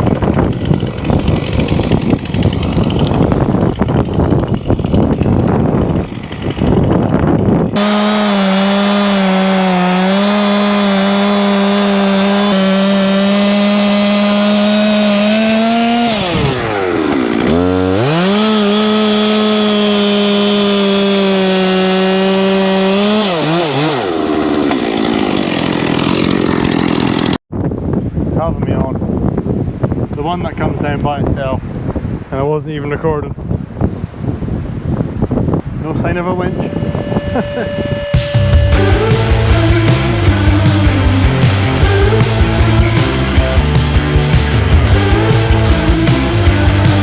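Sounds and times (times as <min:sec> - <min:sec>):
chainsaw cutting wood: 0:00.0 - 0:27.4, 0:36.5 - 0:47.0.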